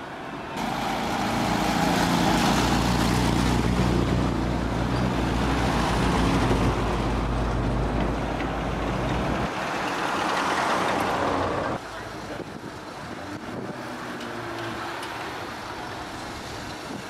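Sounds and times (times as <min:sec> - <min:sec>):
small car engines humming: 0:00.6 - 0:16.5.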